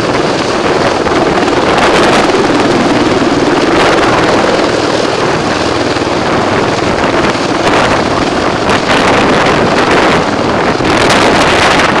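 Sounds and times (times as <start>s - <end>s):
helicopter engines: 0.0s - 12.0s
helicopter rotor chop: 0.0s - 12.0s
wind buffeting microphone: 0.0s - 12.0s.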